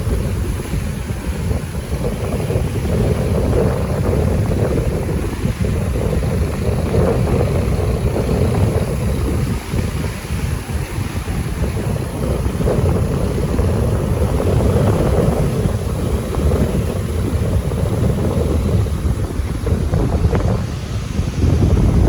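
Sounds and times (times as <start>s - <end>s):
sea waves washing: 0.0s - 22.0s
wind buffeting microphone: 0.0s - 22.0s.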